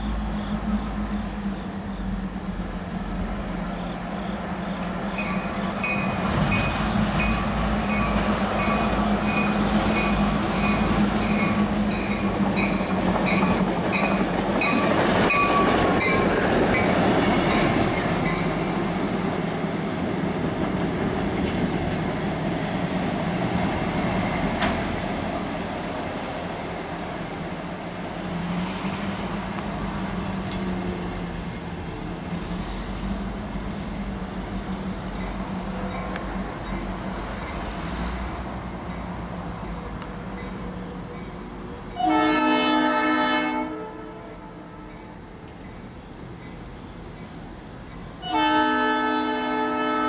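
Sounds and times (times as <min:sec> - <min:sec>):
locomotive engine drone: 0:00.0 - 0:50.0
train wheels rumbling on rails: 0:00.0 - 0:50.0.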